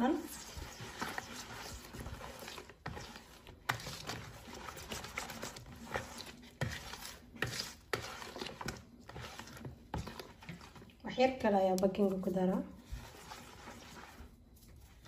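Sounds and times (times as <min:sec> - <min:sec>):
batter being mixed by hand: 0:00.0 - 0:15.0.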